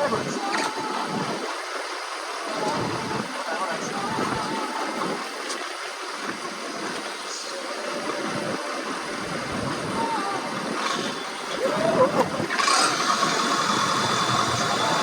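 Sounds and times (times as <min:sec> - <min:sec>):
faint voices: 0:00.0 - 0:15.0
steady rushing noise: 0:00.0 - 0:15.0.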